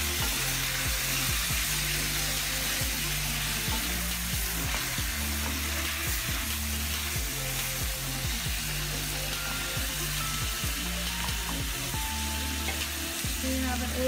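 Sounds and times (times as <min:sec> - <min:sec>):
food sizzling in hot oil: 0:00.0 - 0:14.0
low background music: 0:00.0 - 0:14.0.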